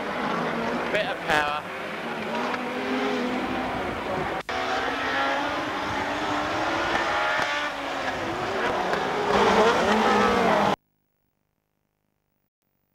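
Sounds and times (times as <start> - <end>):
racing car engines accelerating: 0.0 - 10.8.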